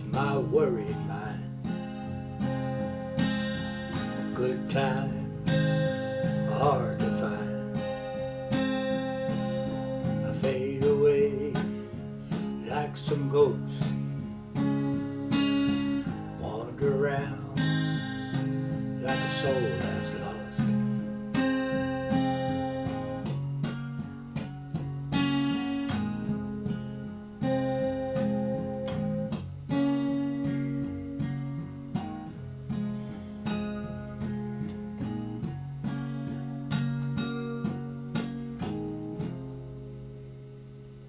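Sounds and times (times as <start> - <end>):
acoustic guitar strumming chords: 0.0 - 41.0.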